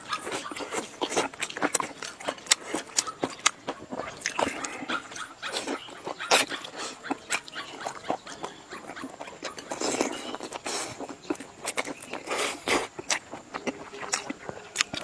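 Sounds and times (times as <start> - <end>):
person chewing noisily: 0.0 - 15.0.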